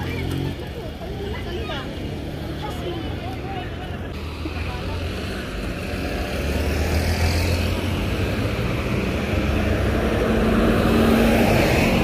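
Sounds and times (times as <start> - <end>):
bus passing: 0.0 - 12.0
traffic road noise: 0.0 - 12.0.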